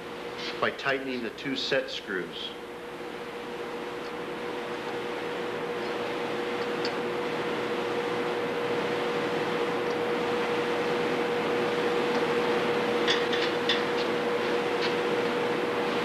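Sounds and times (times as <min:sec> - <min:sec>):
steady hum and hiss: 0:00.0 - 0:16.0.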